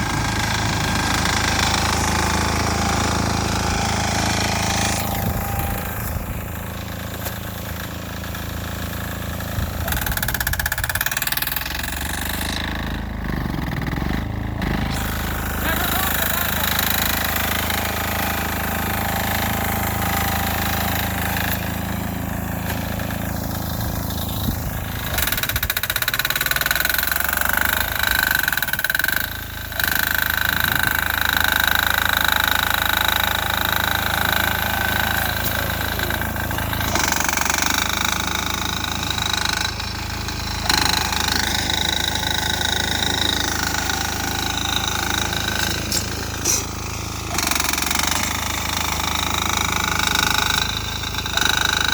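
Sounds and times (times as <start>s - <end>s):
garden tractor diesel engine: 0.0s - 51.9s.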